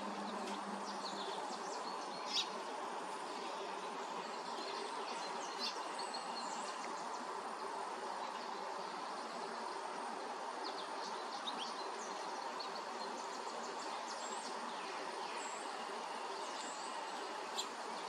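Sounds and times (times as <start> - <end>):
outdoor background hiss: 0.0 - 18.0
songbirds chirping: 0.0 - 18.0.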